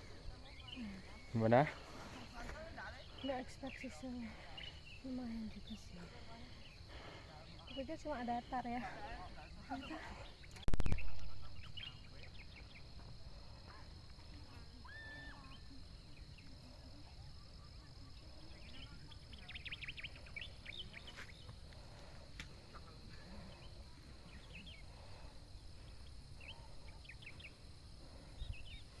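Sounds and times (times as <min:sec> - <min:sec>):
faint outdoor background noise: 0:00.0 - 0:29.0
small birds chirping: 0:00.0 - 0:29.0.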